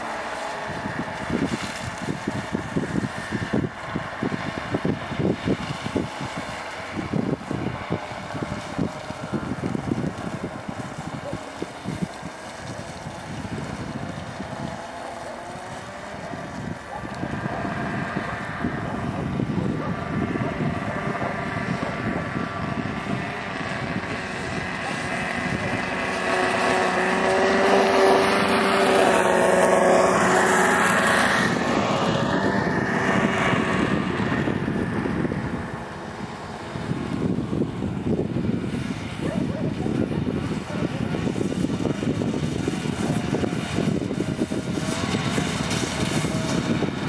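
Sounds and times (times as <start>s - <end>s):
snowmobile engine running: 0.0s - 47.0s.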